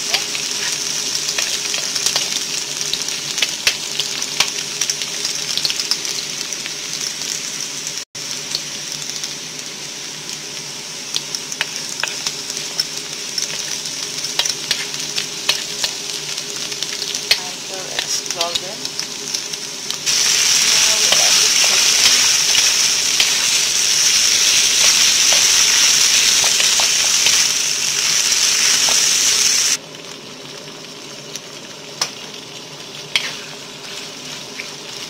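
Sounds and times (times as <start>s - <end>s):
onion sizzling in hot oil: 0.0s - 35.0s.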